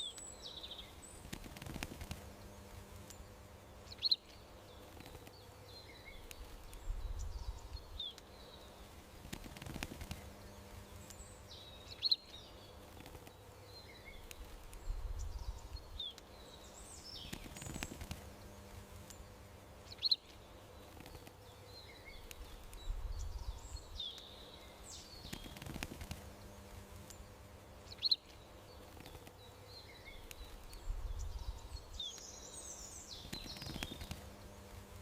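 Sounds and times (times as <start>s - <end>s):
low outdoor background hum: 0.0s - 35.0s
songbirds chirping: 0.0s - 35.0s.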